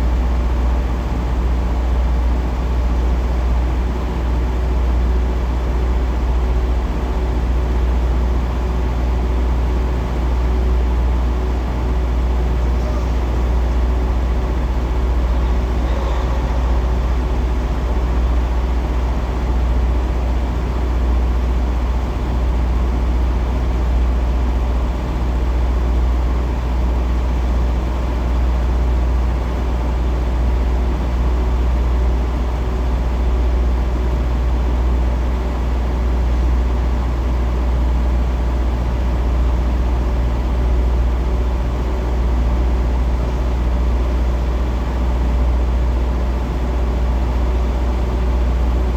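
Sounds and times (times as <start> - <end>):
diesel truck engine idling: 0.1 - 48.9.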